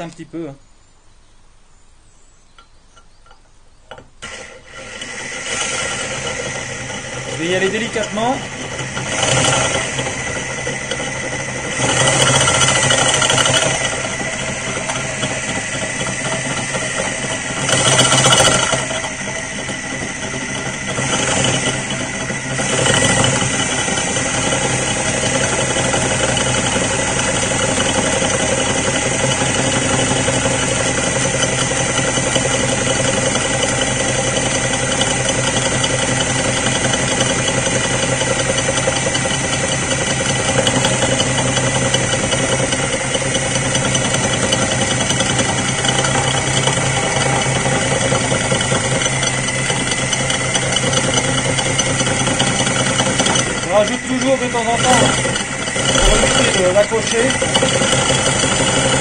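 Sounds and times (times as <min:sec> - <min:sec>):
electric drill grinding ceramic: 0:03.9 - 0:59.0
loud drill hissing: 0:04.2 - 0:59.0.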